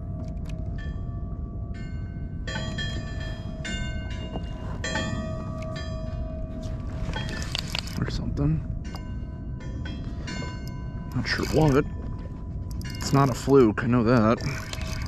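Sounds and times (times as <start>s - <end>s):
bells ringing: 0.0s - 15.0s
low rumble of wind: 0.0s - 15.0s
water rumbling: 0.0s - 15.0s.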